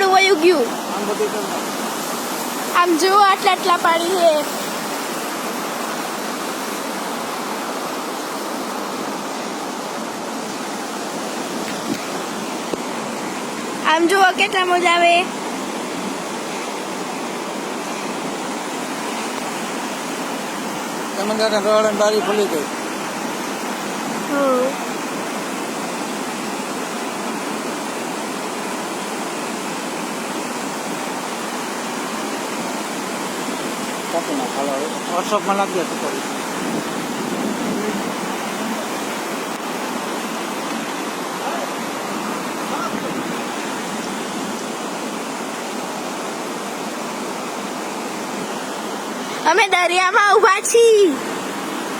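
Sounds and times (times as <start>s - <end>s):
floodwater rushing: 0.0s - 51.9s.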